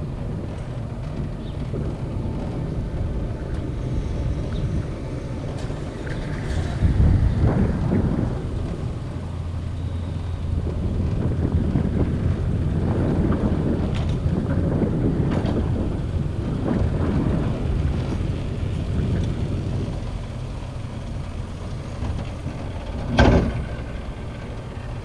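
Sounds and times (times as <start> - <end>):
cable car rumble: 0.0 - 25.0
wind buffeting microphone: 0.0 - 25.0.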